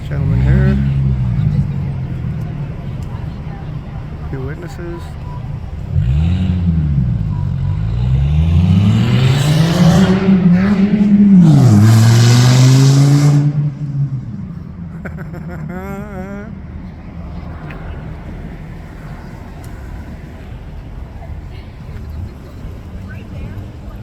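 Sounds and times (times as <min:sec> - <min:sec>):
car engine revving past: 0:00.0 - 0:04.4, 0:05.3 - 0:20.8.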